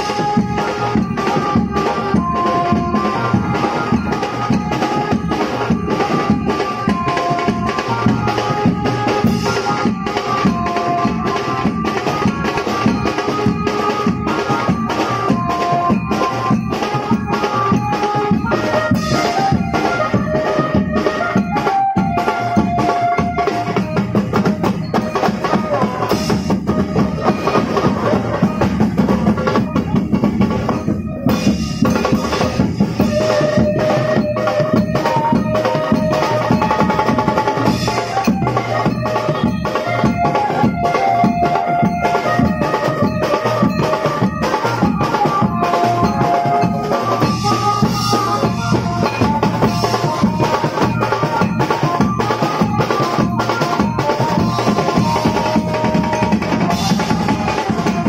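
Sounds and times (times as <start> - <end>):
drum band fast beat: 0.0 - 58.0
held-note melody: 0.0 - 58.0.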